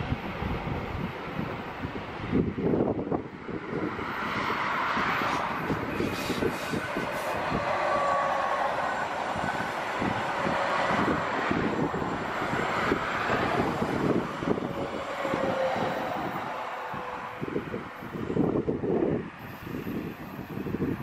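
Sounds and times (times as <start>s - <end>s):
train rushing rail noise: 0.0s - 21.0s.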